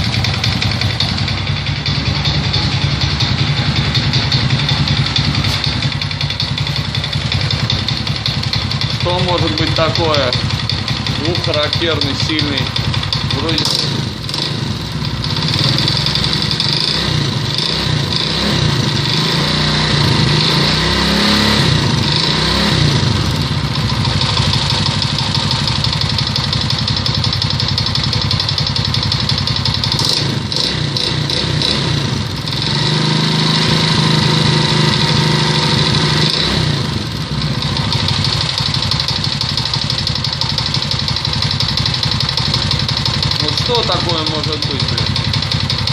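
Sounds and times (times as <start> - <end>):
moped engine knocking: 0.0 - 45.9.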